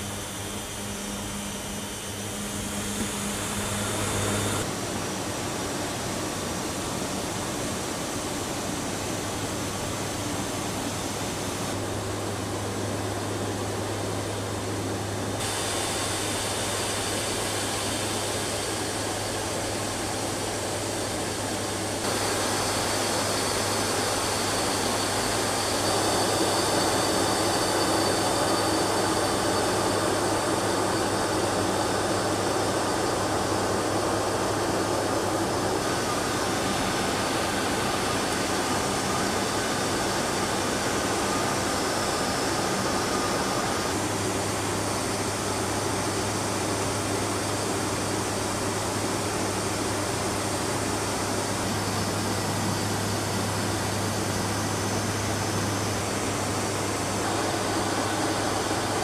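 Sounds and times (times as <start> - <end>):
aircraft cabin drone: 0.0 - 4.7, 9.6 - 59.0.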